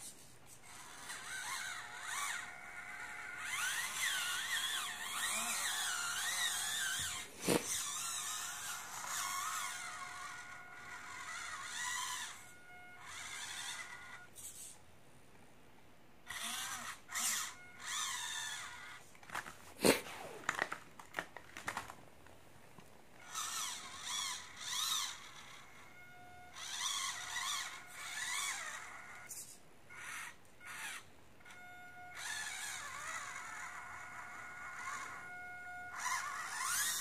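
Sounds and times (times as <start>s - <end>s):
small electric motor whining: 0.6s - 14.8s, 16.2s - 20.8s, 23.2s - 37.0s.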